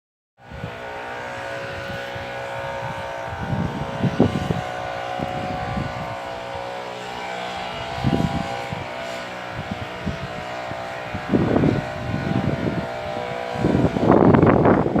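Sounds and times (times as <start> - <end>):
steady drone: 0.4 - 15.0
wind buffeting microphone: 0.4 - 15.0.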